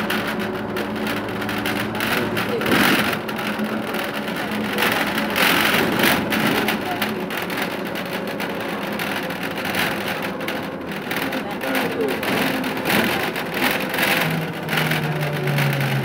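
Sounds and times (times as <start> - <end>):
bus diesel engine running: 0.0 - 16.0
road noise: 0.0 - 16.0
small rattles and knocks: 0.0 - 16.0.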